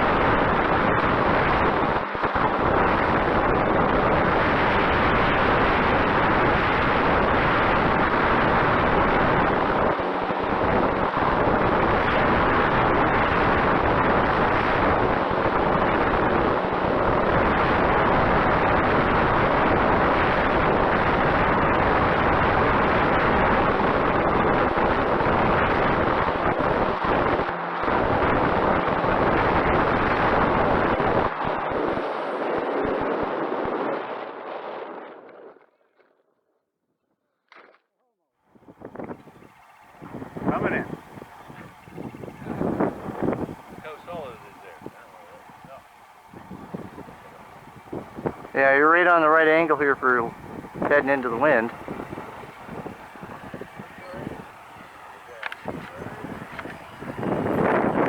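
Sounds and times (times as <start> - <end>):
strong wind buffeting microphone: 0.0 - 35.5, 38.5 - 58.0.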